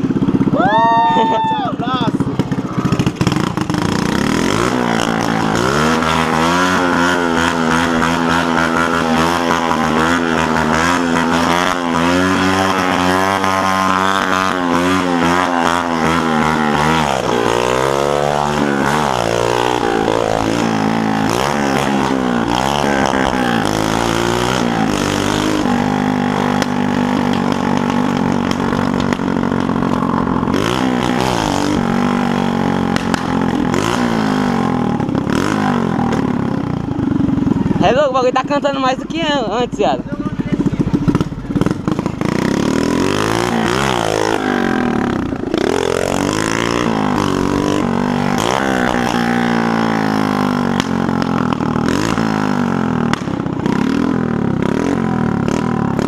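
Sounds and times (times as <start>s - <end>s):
moped engine revving: 0.0s - 56.0s.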